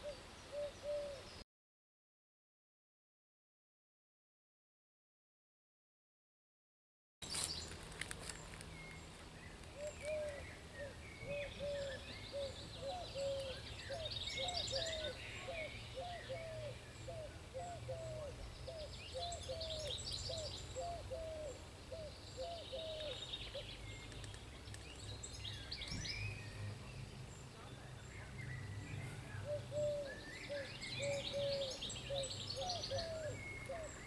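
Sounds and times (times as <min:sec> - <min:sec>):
songbirds chirping: 0:00.0 - 0:01.4, 0:07.2 - 0:34.0.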